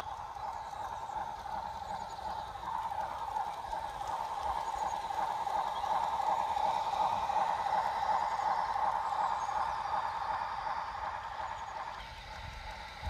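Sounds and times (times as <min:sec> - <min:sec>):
model train motor whine: 0:00.0 - 0:13.0
wheels rolling on rails: 0:00.0 - 0:13.0.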